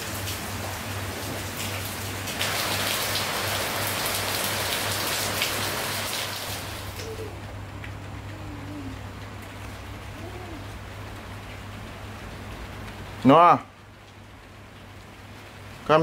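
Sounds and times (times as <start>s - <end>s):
rain on wet paving and car: 0.0s - 16.0s.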